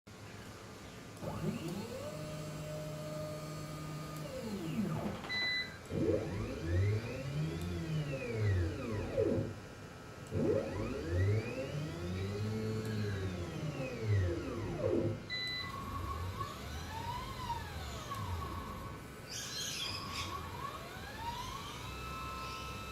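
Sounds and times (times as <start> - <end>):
stepper motors whining: 1.2 - 22.9.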